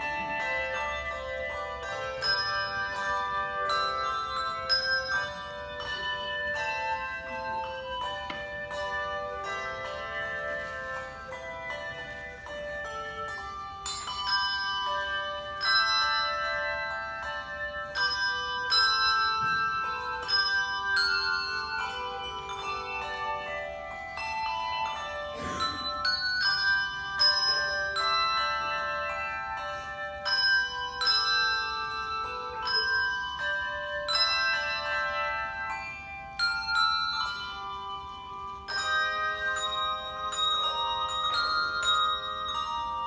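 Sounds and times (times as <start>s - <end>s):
handbell choir playing: 0.0s - 43.0s.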